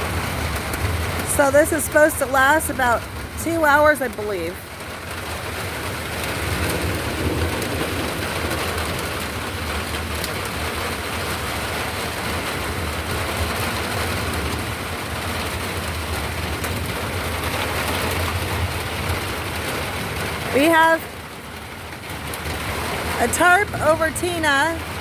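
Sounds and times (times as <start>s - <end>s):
torrential rain pouring: 0.0s - 25.0s.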